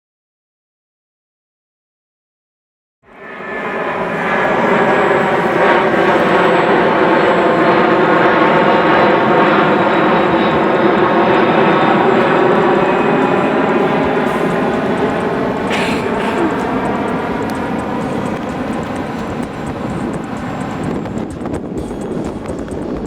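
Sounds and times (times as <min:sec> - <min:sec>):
aircraft engine droning: 0:03.0 - 0:23.0.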